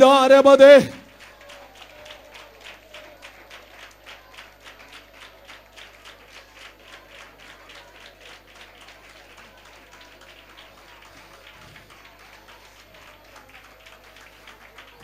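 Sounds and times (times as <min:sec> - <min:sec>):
congregation clapping in rhythm: 0:00.0 - 0:15.0.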